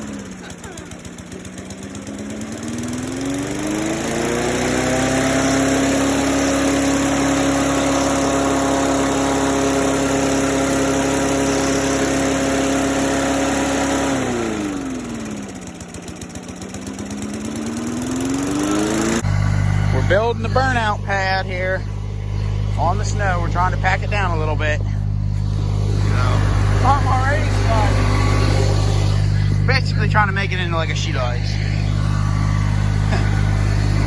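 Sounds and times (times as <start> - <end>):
lawn mower engine revving: 0.0 - 34.0.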